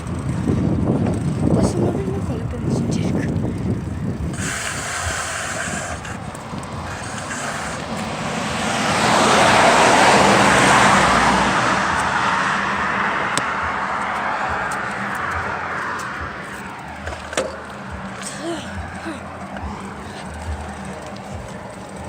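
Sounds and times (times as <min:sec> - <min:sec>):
steady road noise: 0:00.0 - 0:22.0
vehicle passing close by: 0:03.3 - 0:22.0.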